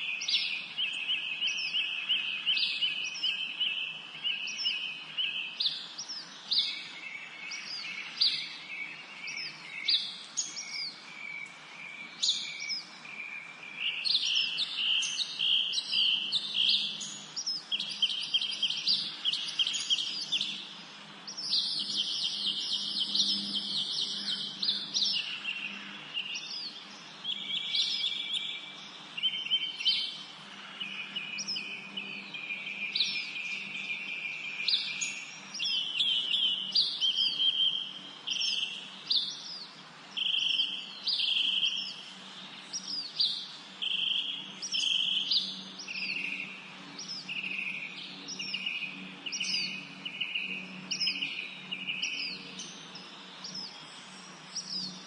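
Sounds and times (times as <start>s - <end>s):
songbirds singing and chirping: 0.0s - 55.0s.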